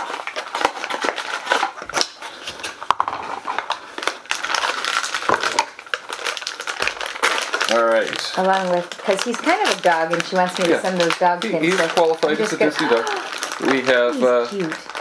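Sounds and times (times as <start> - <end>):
foil wrappers crinkling: 0.0 - 15.0.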